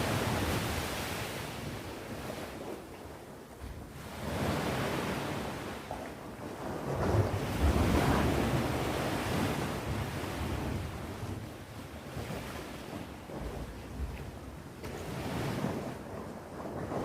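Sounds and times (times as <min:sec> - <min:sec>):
ocean waves breaking on shore: 0:00.0 - 0:17.0
wind rumbling on microphone: 0:00.0 - 0:17.0.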